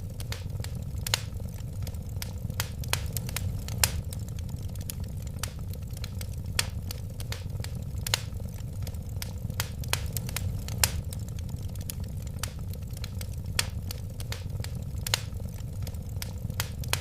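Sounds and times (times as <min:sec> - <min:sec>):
fire crackles and pops: 0:00.0 - 0:17.0
flames rumbling in fireplace: 0:00.0 - 0:17.0.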